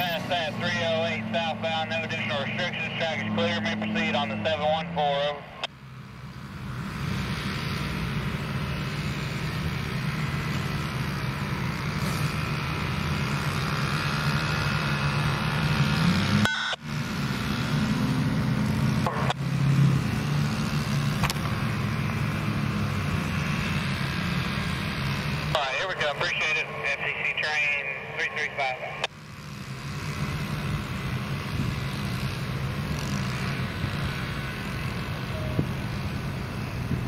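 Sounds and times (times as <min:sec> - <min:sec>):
vehicle rumble with low hum: 0:00.0 - 0:37.0.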